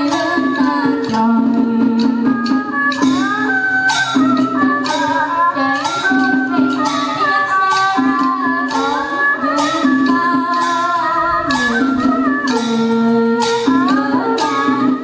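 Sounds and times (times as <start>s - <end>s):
percussion beat: 0.0s - 15.0s.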